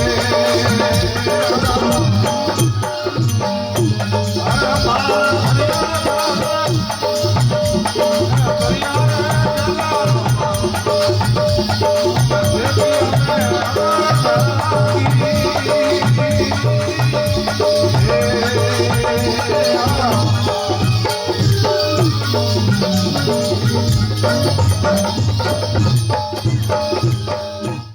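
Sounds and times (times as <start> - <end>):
hand drum beat: 0.0 - 27.9
instrumental melody: 0.0 - 27.9.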